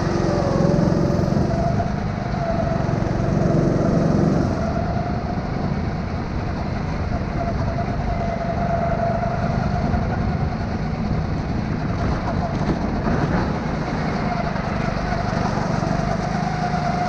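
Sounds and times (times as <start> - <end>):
kart engine running: 0.0 - 17.0.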